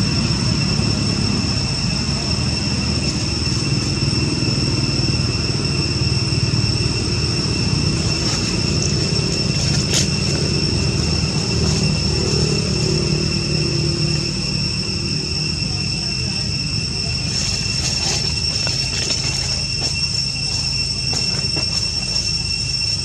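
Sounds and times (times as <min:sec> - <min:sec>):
high-pitched whine: 0:00.0 - 0:23.0
low rumble of motor traffic: 0:00.0 - 0:23.0.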